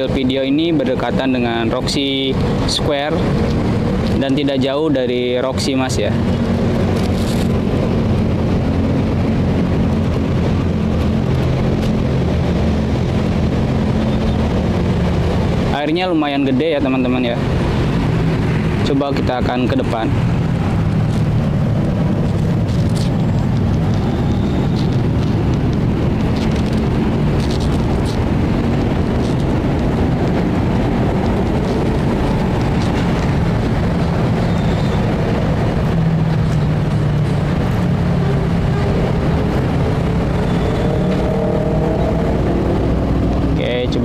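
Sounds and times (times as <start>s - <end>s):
faint engine hum: 0.0s - 44.0s
low rumble of traffic: 0.0s - 44.0s.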